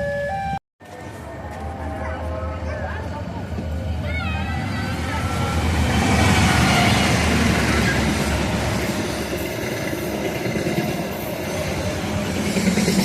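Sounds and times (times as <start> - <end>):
diesel locomotive rumble: 0.8 - 13.0
train wheels rushing on rails: 1.0 - 13.0.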